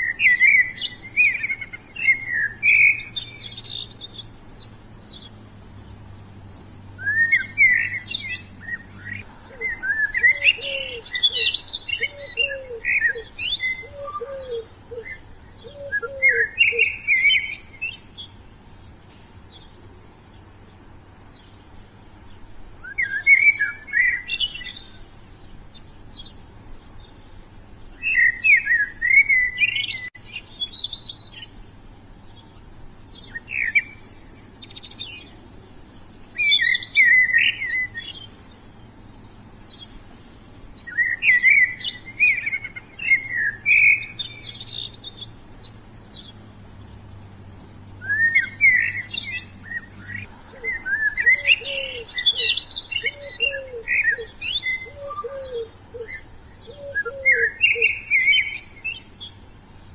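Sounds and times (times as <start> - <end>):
low repeated bird notes: 0.0 - 59.9
songbird chirping and trilling: 0.0 - 59.9.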